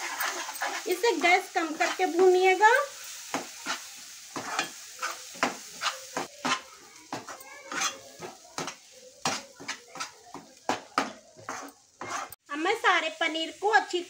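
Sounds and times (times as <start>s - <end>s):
spoon scraping a pan: 0.0s - 12.4s
faint sizzle: 0.0s - 14.0s.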